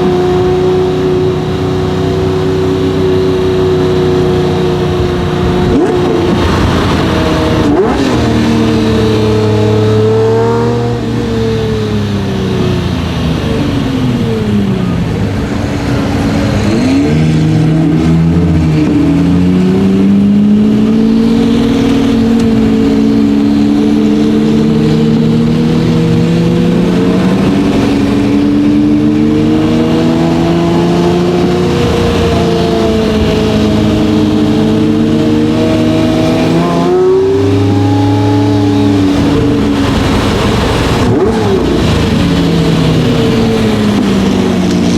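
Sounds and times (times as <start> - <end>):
sports car engine accelerating: 0.0 - 44.9.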